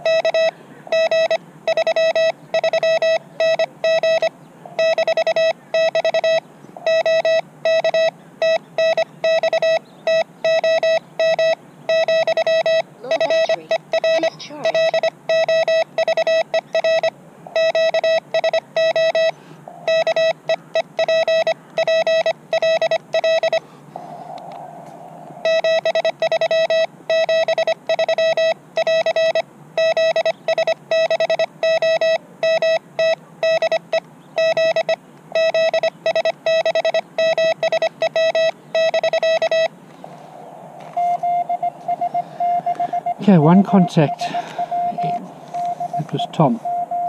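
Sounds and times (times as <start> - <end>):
morse code tone: 0.0 - 23.6, 25.4 - 39.7, 40.8 - 47.0
fainter higher morse tone: 0.0 - 47.0.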